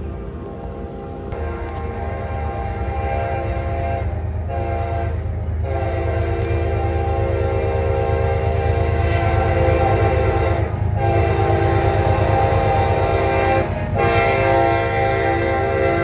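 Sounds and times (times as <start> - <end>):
low locomotive rumble: 0.0 - 16.0
locomotive air horn blasts: 1.4 - 16.0.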